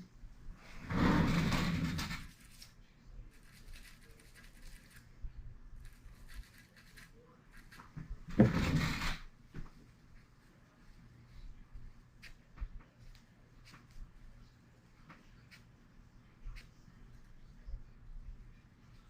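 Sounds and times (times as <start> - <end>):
faint scratching: 0.6 - 19.0.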